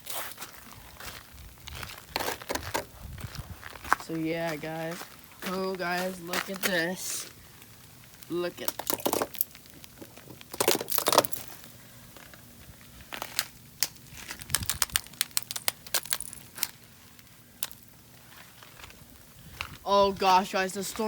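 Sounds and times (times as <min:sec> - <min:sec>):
ice crunching and crackling: 0:00.0 - 0:21.0.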